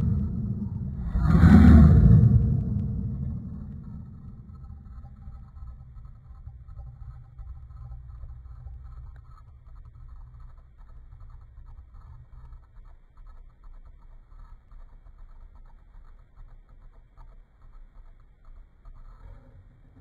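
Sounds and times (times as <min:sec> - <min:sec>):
low fluttering rumble: 0:00.0 - 0:16.0
faint scratchy ticks: 0:02.0 - 0:20.0.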